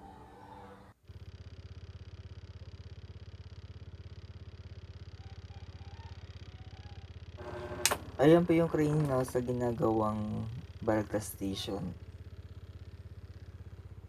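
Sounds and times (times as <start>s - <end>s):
small engine idling: 1.0s - 14.0s.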